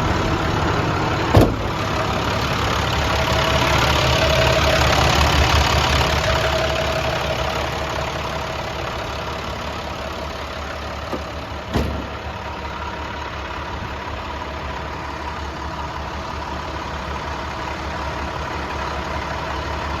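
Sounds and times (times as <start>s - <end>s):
truck diesel engine idling: 0.0s - 20.0s.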